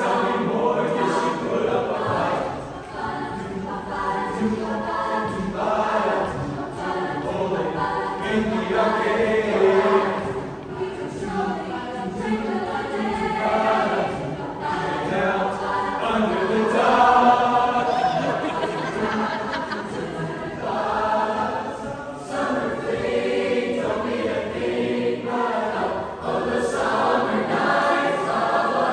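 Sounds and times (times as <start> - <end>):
choir singing a cappella: 0.0 - 28.9.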